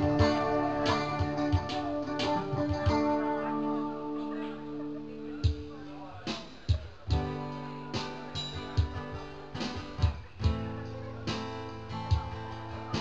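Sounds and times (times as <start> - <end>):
guitar chords strummed: 0.0 - 13.0
steady beat: 0.0 - 13.0.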